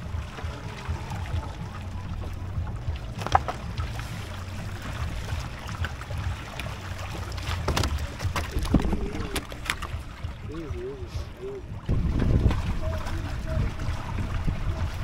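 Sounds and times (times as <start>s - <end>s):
steady low rumble: 0.0s - 15.0s
water lapping against a hull: 0.0s - 15.0s.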